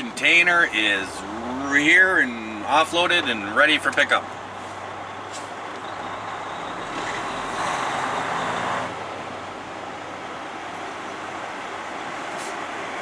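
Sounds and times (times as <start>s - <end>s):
semi truck engine running: 0.0s - 13.0s.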